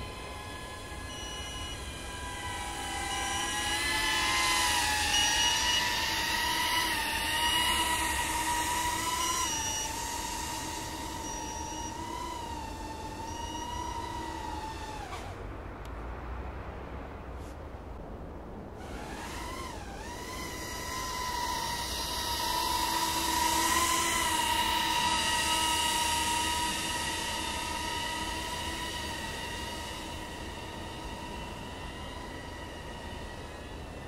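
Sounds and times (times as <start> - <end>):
quadcopter motors whining: 0.0 - 15.9, 18.8 - 34.0.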